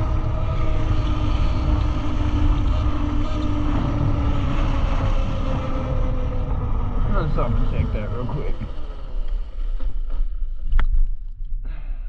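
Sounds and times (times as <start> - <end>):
wind buffeting microphone: 0.0 - 11.3
electric motor and chain whine: 0.0 - 11.4.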